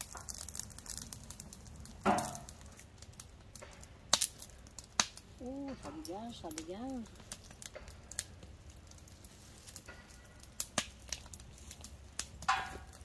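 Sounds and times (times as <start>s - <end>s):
sharp pops and cracks: 0.0s - 13.0s
wood fire crackling: 0.0s - 13.0s.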